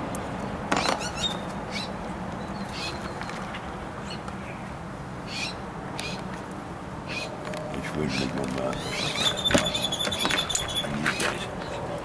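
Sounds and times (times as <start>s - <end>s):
birds chirping: 0.0s - 6.4s, 7.0s - 12.0s.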